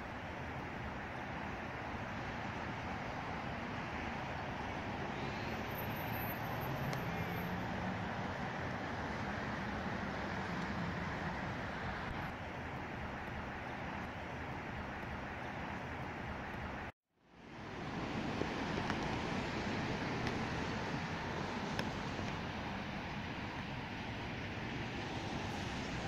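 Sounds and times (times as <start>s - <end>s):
distant road traffic: 0.0s - 26.0s.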